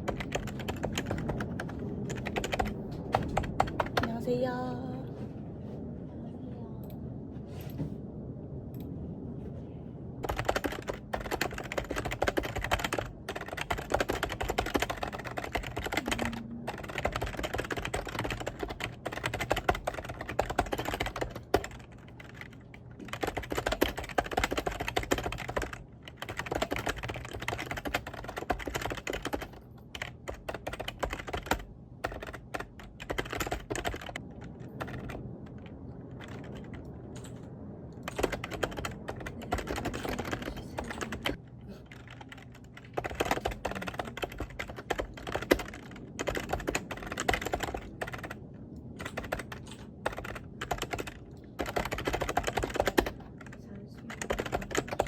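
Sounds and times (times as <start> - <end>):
fast typing on keyboard: 0.0 - 4.3, 10.2 - 37.3, 38.0 - 55.0.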